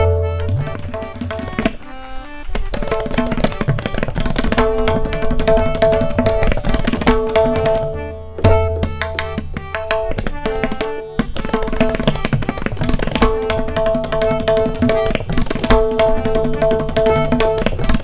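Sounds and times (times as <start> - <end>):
harmonium melody: 0.0 - 18.0
tabla playing fast strokes: 0.0 - 18.0.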